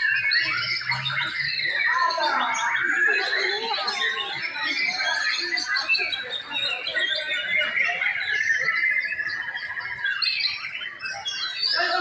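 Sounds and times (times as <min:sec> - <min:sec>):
birds singing whistled phrases: 0:00.0 - 0:12.0.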